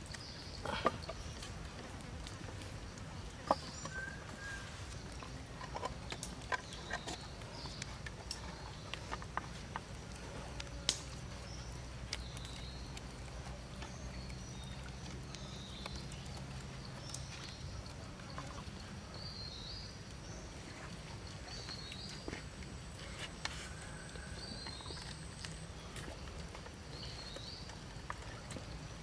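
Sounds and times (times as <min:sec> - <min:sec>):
forest background: 0:00.0 - 0:29.0.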